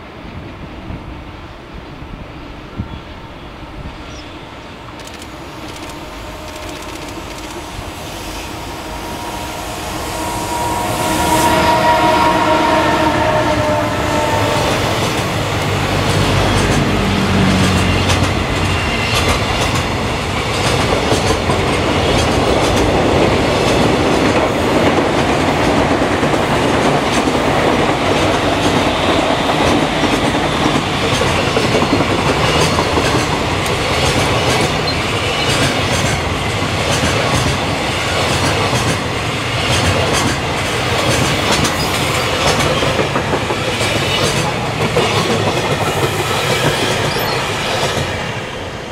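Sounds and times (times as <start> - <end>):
electric locomotive passing: 0.0 - 48.9.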